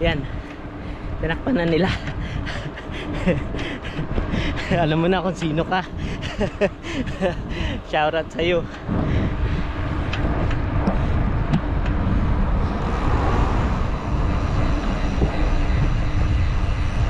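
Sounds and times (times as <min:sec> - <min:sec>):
road and traffic noise: 0:00.0 - 0:17.0
wind rumbling on microphone: 0:00.0 - 0:17.0.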